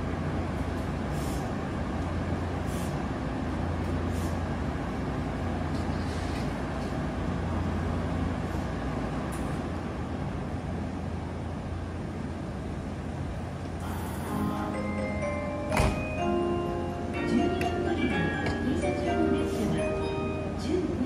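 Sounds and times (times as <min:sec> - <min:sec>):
train equipment low hum: 0:00.0 - 0:21.0.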